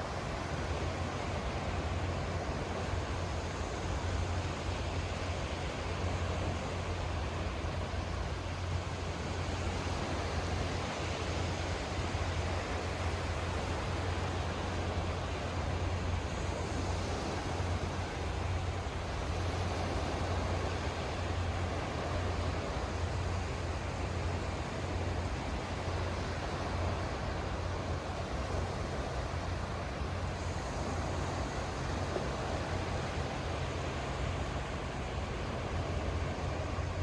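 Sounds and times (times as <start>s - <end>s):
sea surf washing: 0.0s - 37.0s.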